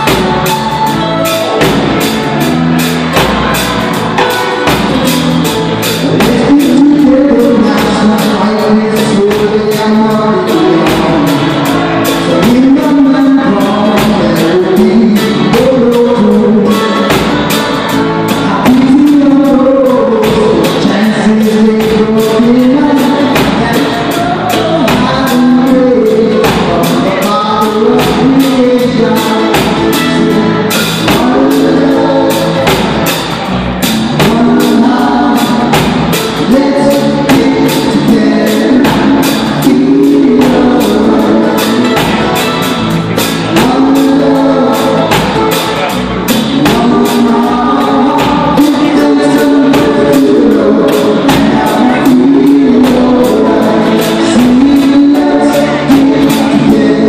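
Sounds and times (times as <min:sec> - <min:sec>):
live reggae band playing: 0:00.0 - 0:57.0
person singing: 0:00.0 - 0:57.0.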